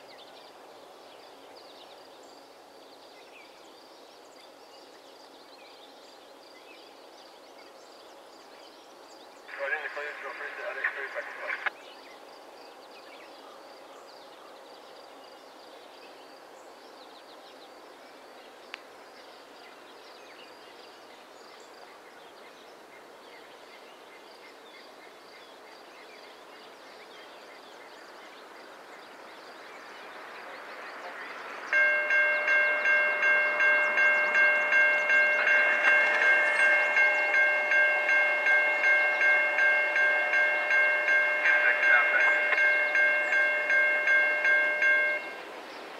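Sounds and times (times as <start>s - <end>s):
rumble of oncoming train: 0.1s - 45.9s.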